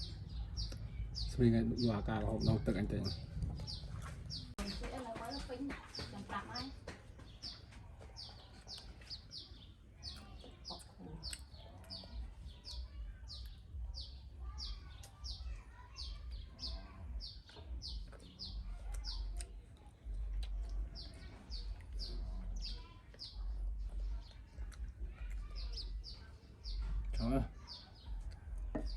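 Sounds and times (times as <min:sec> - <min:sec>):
small bird chirping: 0:00.0 - 0:28.9.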